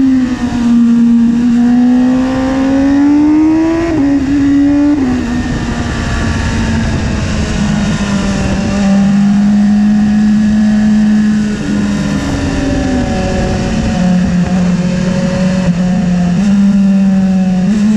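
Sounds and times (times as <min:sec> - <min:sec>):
motorcycle engine revving: 0:00.0 - 0:17.9
wind rush over microphone: 0:00.0 - 0:17.9.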